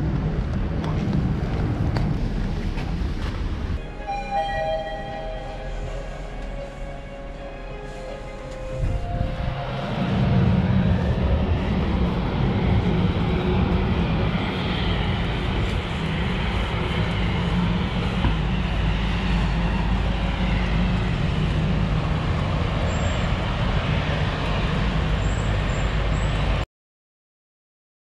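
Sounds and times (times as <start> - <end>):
distant jet aircraft rumble: 0.0 - 26.6
faint jet engine whine: 0.0 - 26.6.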